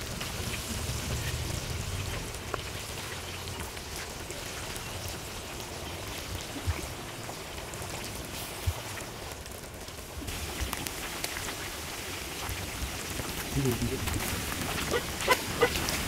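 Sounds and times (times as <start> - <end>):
meat deep-frying in oil: 0.0 - 16.0.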